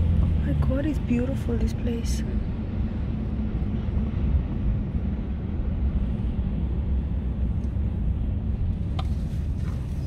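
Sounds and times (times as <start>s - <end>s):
car interior road and engine rumble: 0.0s - 10.0s.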